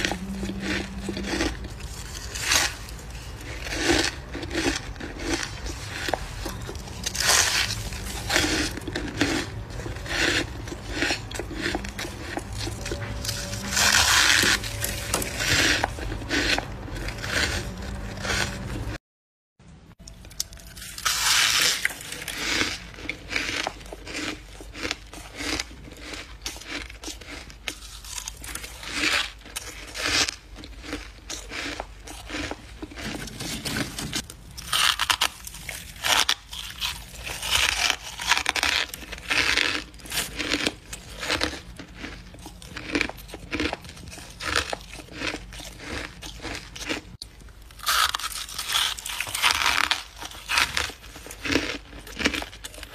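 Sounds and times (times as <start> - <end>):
crunching frost chunks: 0.0 - 19.0, 20.4 - 52.9.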